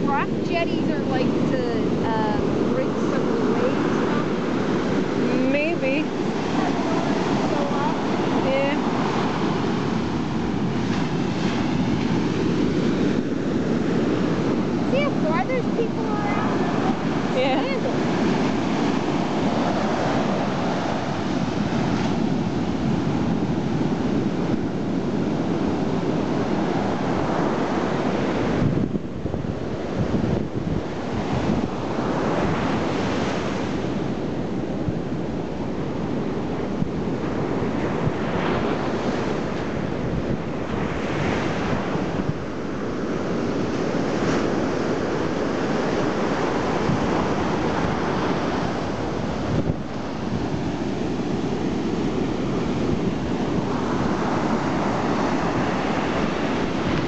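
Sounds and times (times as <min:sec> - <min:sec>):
ocean surf breaking on sand: 0:00.0 - 0:57.0
wind buffeting microphone: 0:00.0 - 0:57.0.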